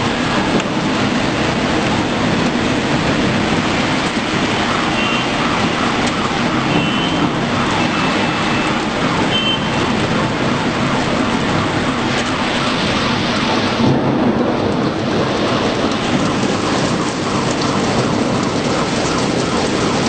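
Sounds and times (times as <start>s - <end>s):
city traffic rumble: 0.0s - 20.0s
light rain: 0.0s - 20.0s.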